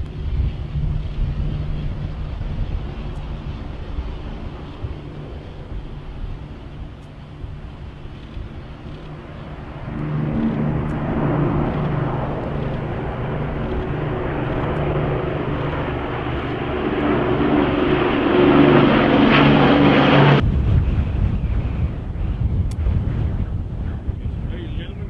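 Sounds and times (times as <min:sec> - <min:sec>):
propeller aircraft engines droning: 0:00.0 - 0:25.0
wind rumble on microphone: 0:00.0 - 0:25.0.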